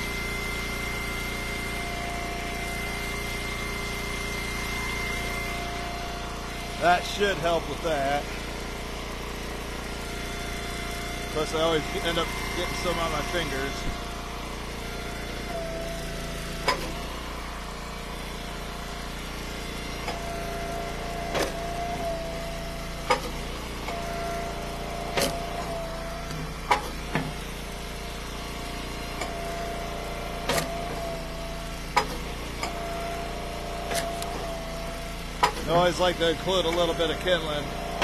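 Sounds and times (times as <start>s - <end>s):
hydraulic wood splitter running: 0.0s - 38.0s
splitter whine: 0.0s - 38.0s.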